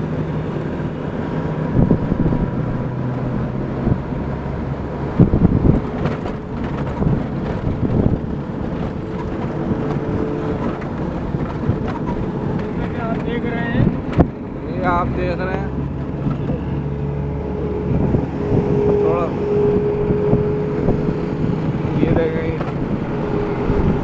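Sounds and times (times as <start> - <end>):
vehicle engine drone: 0.0 - 24.0.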